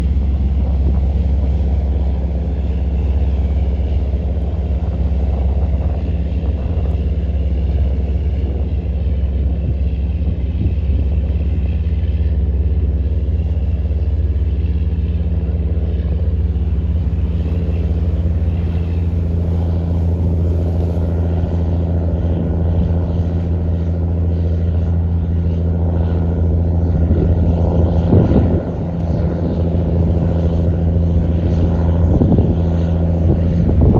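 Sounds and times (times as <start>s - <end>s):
boat diesel engine droning: 0.0s - 33.9s.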